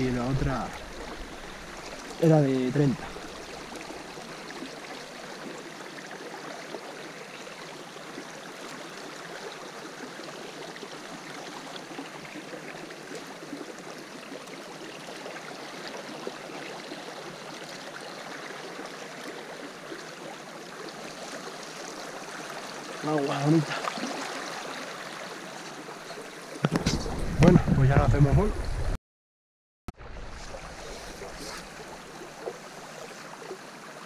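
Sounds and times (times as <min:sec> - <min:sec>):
river water running over gravel: 0:00.0 - 0:28.6, 0:30.0 - 0:34.0.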